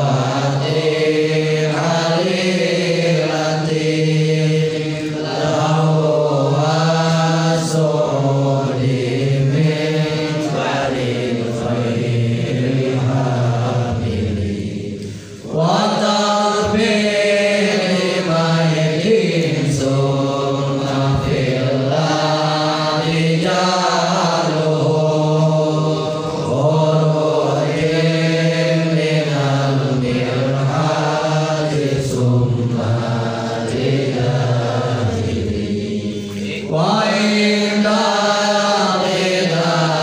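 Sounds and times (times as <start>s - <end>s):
person chanting a poem: 0.0s - 40.0s.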